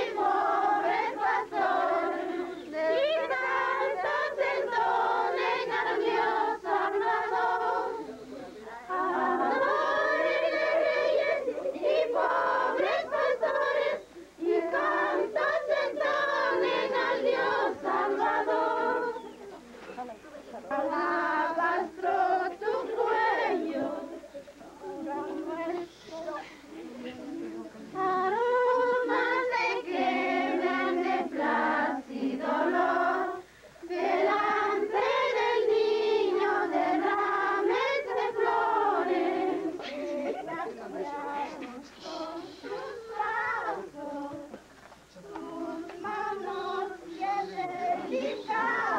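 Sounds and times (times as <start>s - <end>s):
group singing a hymn: 0.0s - 48.9s.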